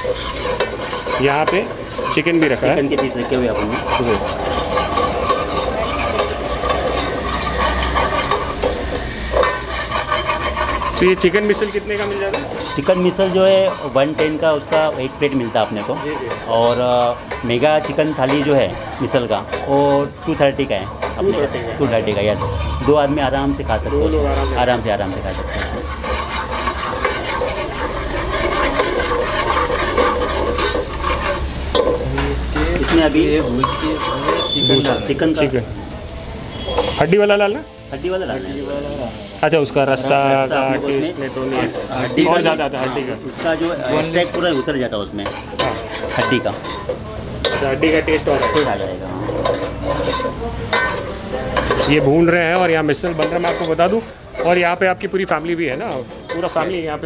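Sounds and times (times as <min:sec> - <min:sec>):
ladle scraping steel pot: 0:00.0 - 0:35.5, 0:36.4 - 0:37.0, 0:39.9 - 0:57.0
paste frying and sizzling: 0:00.0 - 0:57.0.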